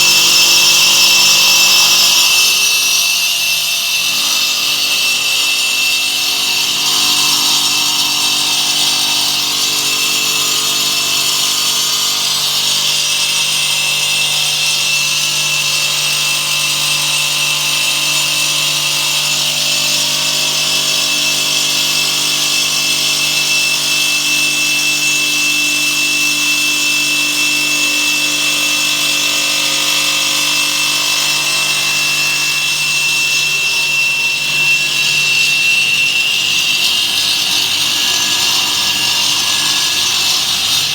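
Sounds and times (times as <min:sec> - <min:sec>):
stone saw grinding with high whine: 0:00.0 - 0:40.9.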